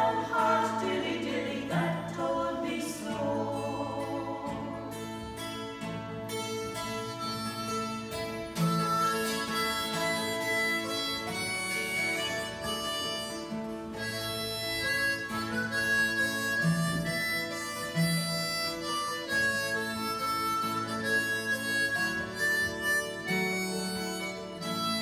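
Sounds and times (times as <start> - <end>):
acoustic guitar accompaniment: 0.0 - 25.0
harmonica melody: 0.0 - 25.0.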